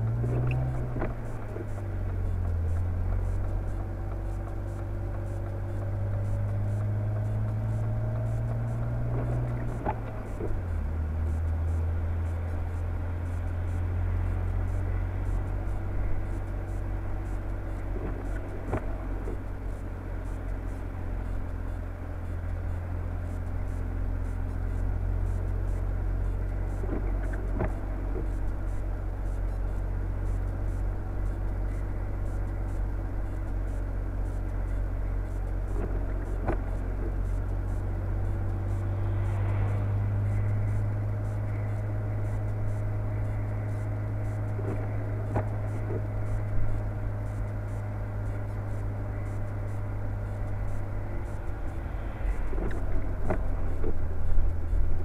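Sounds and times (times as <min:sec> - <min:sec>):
engine and tyres rumbling: 0:00.0 - 0:55.0.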